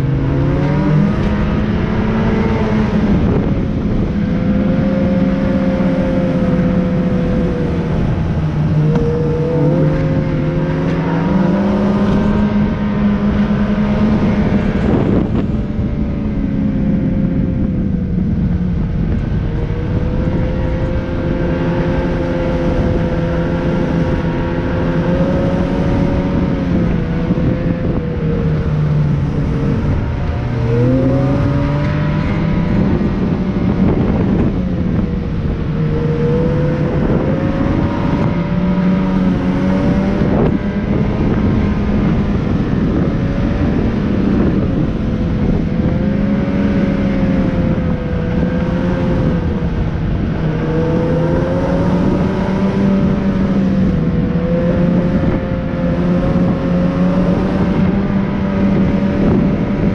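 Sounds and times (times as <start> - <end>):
vehicle engine running: 0.0 - 59.9
wind and road noise: 0.0 - 59.9.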